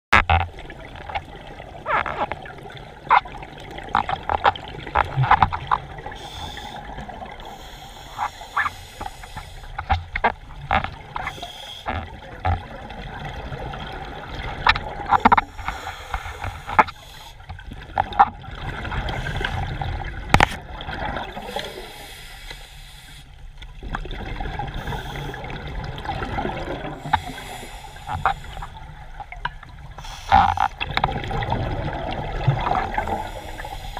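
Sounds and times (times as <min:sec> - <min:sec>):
underwater exhaled bubbles: 0:00.2 - 0:22.4, 0:23.7 - 0:33.9.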